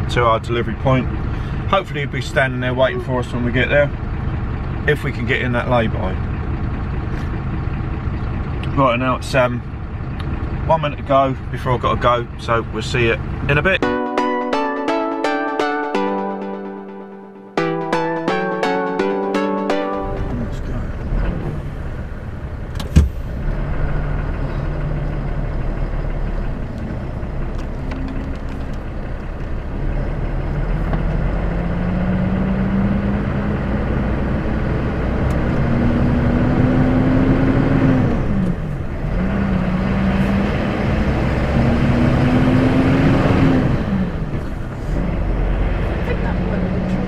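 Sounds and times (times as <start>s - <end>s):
lorry diesel engine accelerating: 0.0s - 47.0s.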